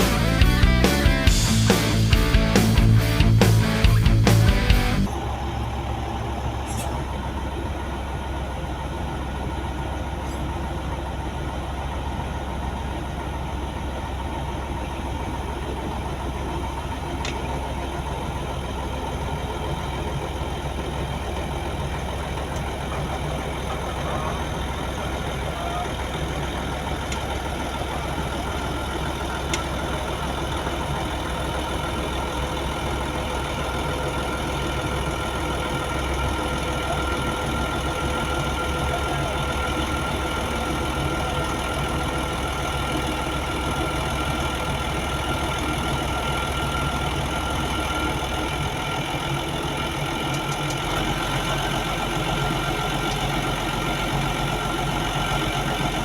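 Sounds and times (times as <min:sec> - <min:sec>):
steady whine: 0:00.0 - 0:12.0, 0:14.5 - 0:56.0
diesel engine running: 0:00.0 - 0:56.0.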